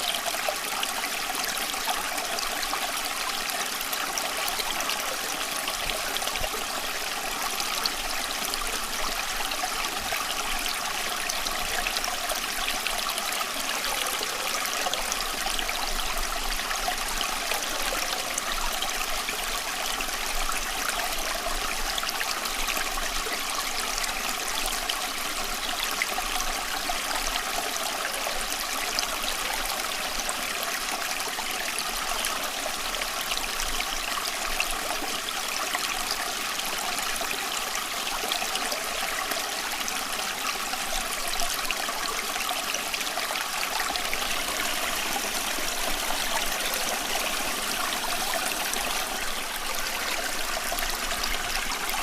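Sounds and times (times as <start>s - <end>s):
water trickling and splashing: 0.0s - 52.0s.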